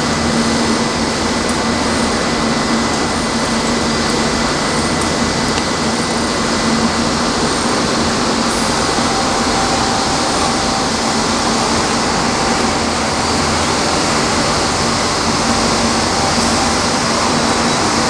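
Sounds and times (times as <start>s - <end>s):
constant hum: 0.0s - 18.0s
industrial machinery running: 0.0s - 18.0s.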